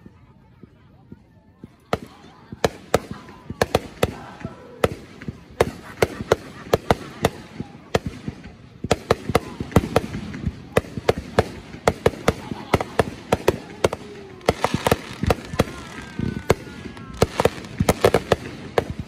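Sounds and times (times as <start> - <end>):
fireworks bursting with sharp bangs: 0.0 - 19.0.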